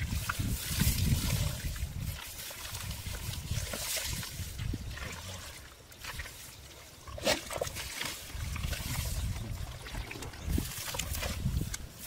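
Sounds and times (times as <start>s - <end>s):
mud squelching: 0.0s - 12.0s
water sloshing and trickling: 0.0s - 12.0s.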